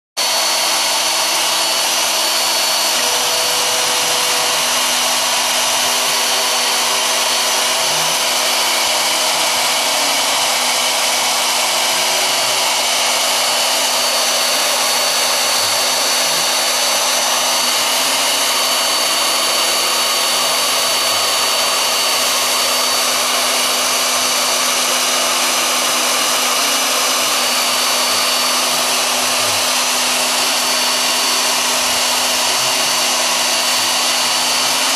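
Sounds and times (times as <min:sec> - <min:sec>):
milling machine spindle whirring: 0:00.2 - 0:34.9
stepper motor tones sliding: 0:00.2 - 0:34.9.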